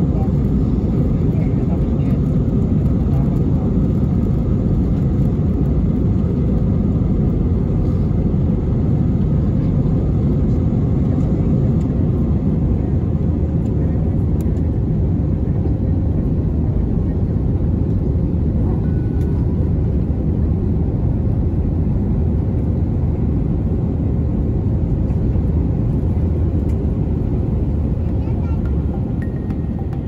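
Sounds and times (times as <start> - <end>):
jet engines deep rumble: 0.0 - 30.0.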